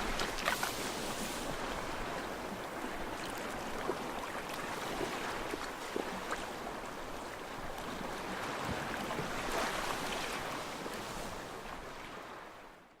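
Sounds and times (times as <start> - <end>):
sea surf washing onto beach: 0.0 - 12.4.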